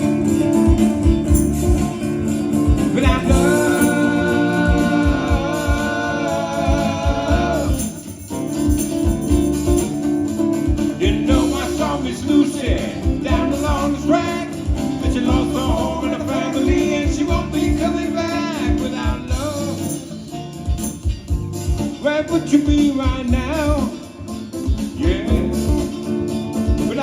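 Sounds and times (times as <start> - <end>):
person singing: 0.0 - 8.8, 10.7 - 21.0, 21.8 - 27.0
drum beat: 0.0 - 22.1, 22.7 - 24.0, 24.6 - 26.1
guitar: 0.0 - 27.0.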